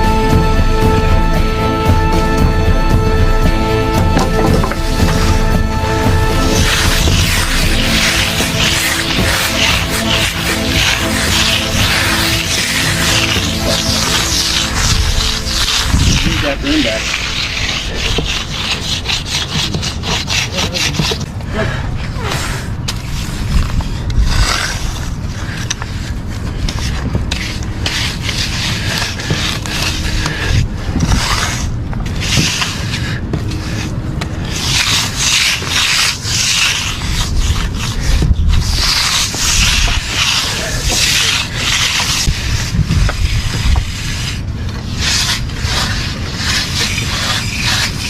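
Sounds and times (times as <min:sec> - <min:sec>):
steady low rumble: 0:00.0 - 0:20.0, 0:21.2 - 0:48.0
broom scraping across concrete: 0:00.0 - 0:48.0.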